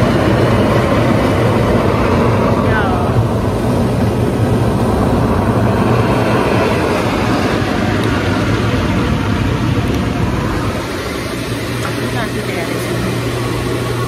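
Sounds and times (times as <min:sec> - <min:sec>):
hydromassage bed rumbling: 0:00.0 - 0:14.0
pump and water jets humming: 0:00.0 - 0:14.0.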